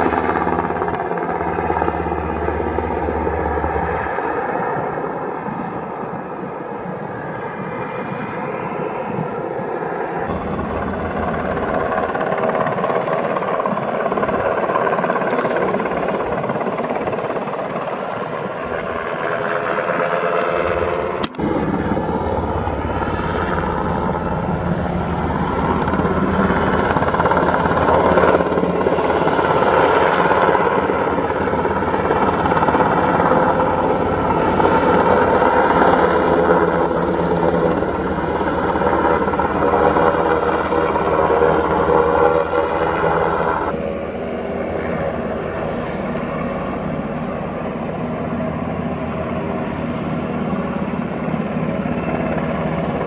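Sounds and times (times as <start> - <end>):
helicopter rotors and engines: 0.0 - 53.0.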